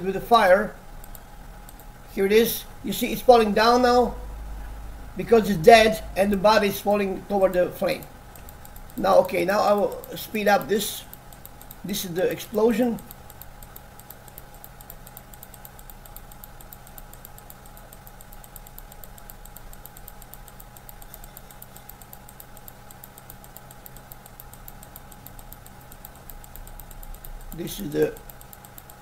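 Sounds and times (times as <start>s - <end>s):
electrical hum and hiss: 0.0s - 29.0s
fast even ticking: 5.2s - 29.0s.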